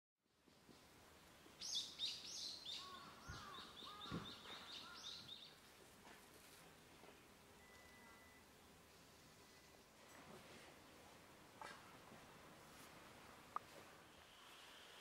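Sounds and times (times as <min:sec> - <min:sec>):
outdoor background noise: 0:00.2 - 0:15.0.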